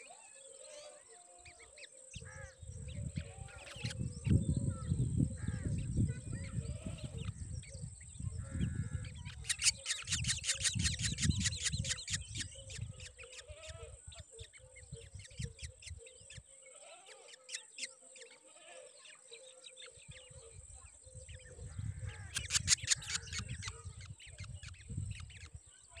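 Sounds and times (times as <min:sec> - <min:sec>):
nestlings begging with high chirps: 0:00.0 - 0:26.0.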